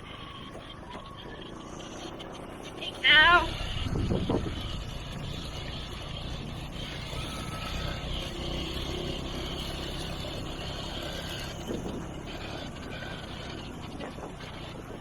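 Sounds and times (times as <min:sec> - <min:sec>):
motorbike engine running: 0:00.0 - 0:15.0
road noise: 0:00.0 - 0:15.0.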